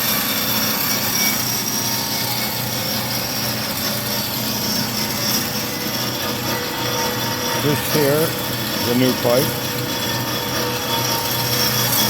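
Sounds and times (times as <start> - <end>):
bandsaw running with high whine: 0.0 - 12.0.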